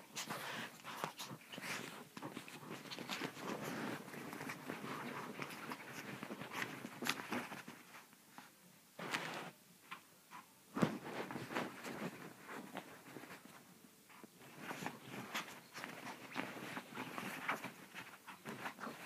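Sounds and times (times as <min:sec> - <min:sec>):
fabric rustling: 0:00.0 - 0:19.0.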